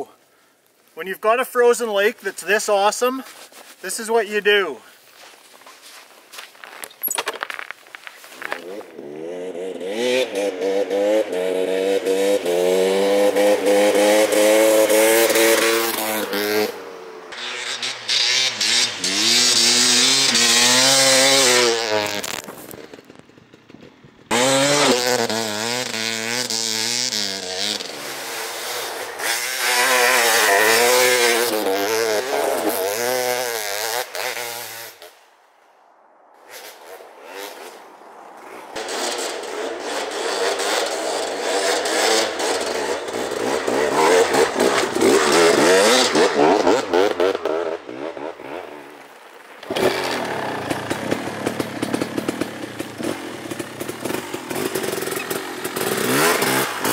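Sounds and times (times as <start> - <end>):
dirt bike engine revving: 8.4 - 35.1, 36.4 - 56.9.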